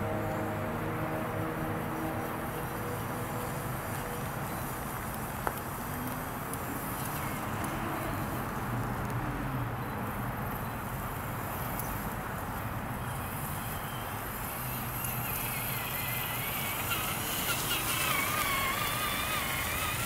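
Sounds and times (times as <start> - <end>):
tires crunching over wood chips: 3.2 - 20.0.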